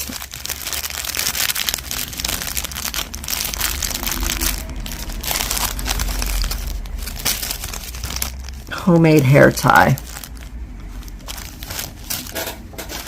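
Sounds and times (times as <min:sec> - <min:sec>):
low steady hum: 0:00.0 - 0:13.0
plastic packaging crinkling: 0:00.0 - 0:13.0.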